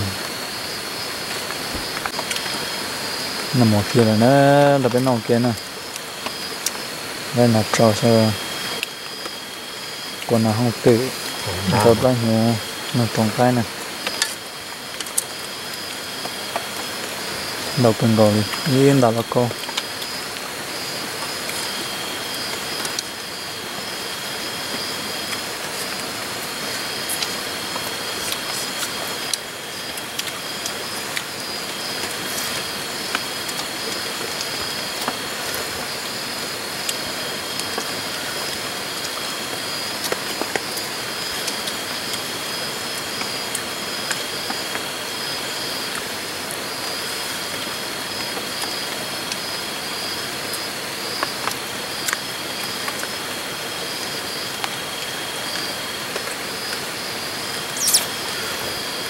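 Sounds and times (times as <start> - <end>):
night insects trilling: 0.0 - 59.0.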